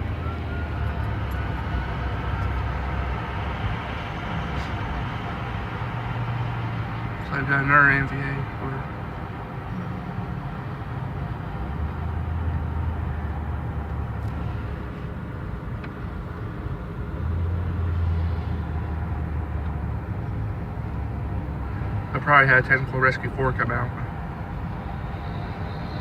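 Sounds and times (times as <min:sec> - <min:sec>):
road noise: 0:00.0 - 0:26.0
vehicle engine rumbling: 0:00.0 - 0:26.0.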